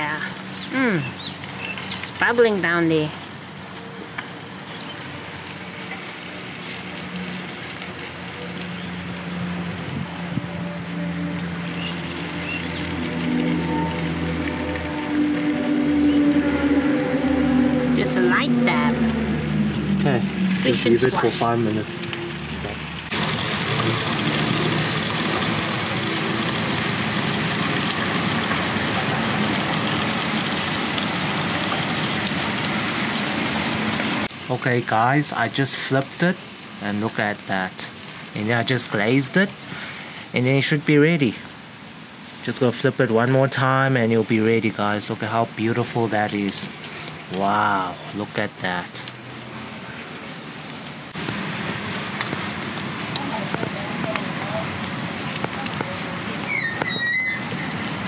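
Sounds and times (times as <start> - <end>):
chicken wings sizzling on a grill: 0.0 - 58.0.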